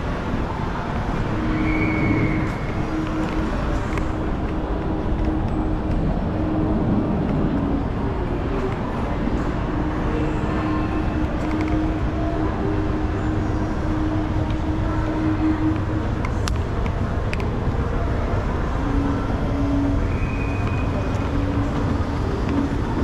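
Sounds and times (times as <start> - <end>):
escalator low rumble: 0.0 - 23.0.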